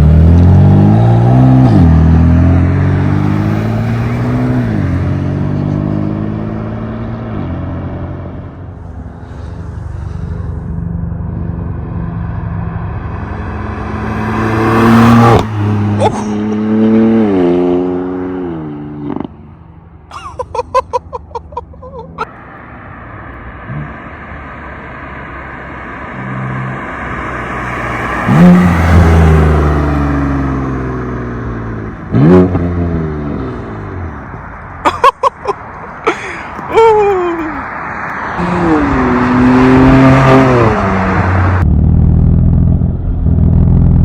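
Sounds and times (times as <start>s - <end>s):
car exhaust accelerating and shifting: 0.0s - 44.0s.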